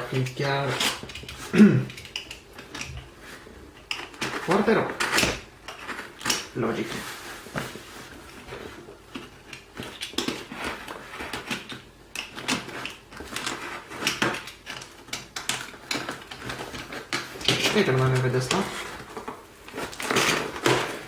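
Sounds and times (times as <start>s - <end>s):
packaging scrapes and crackles: 0.1s - 21.0s
knife cutting packaging: 0.6s - 21.0s.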